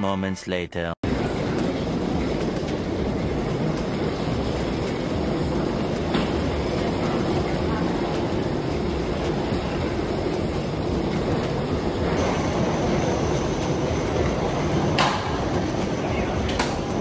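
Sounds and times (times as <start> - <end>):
airport terminal hall rumble: 1.0 - 17.0.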